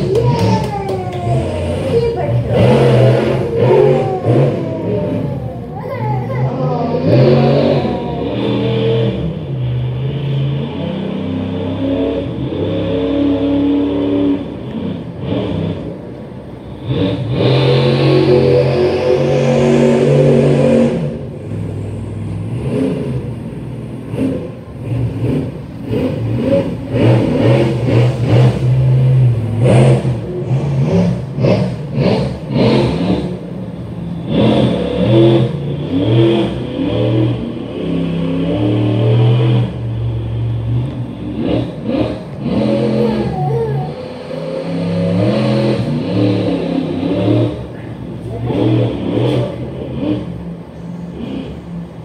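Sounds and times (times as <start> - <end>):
truck engine revving hard: 0.0 - 52.0.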